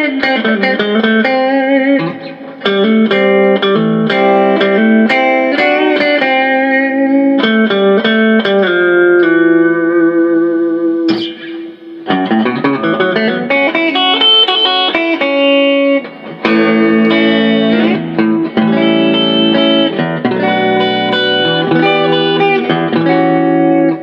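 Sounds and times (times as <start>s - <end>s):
clean electric guitar riff: 0.0s - 24.0s.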